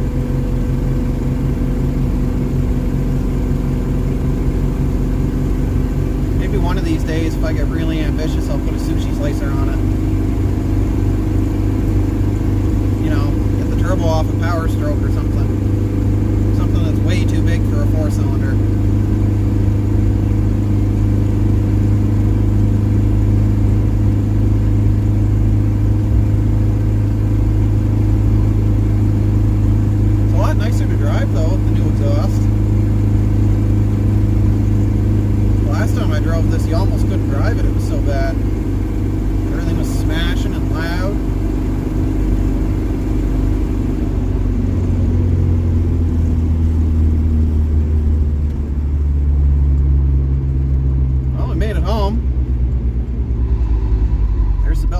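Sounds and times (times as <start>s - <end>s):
diesel engine low drone: 0.0s - 54.9s.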